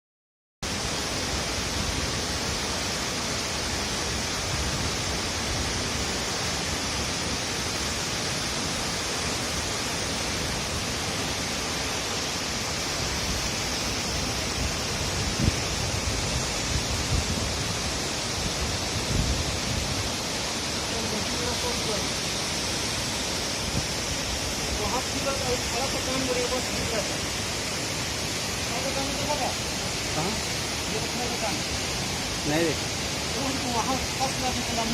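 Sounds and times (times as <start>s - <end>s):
waterfall rushing: 0.6s - 34.9s.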